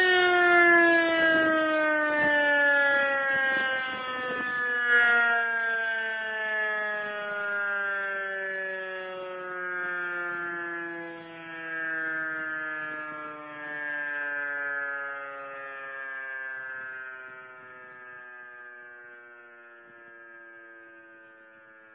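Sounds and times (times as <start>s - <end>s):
siren winding down: 0.0s - 21.9s.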